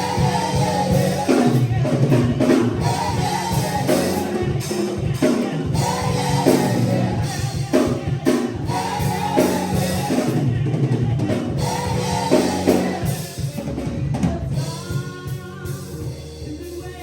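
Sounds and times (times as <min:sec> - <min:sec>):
band with bass and drums: 0:00.0 - 0:17.0
voices singing gospel: 0:00.0 - 0:17.0.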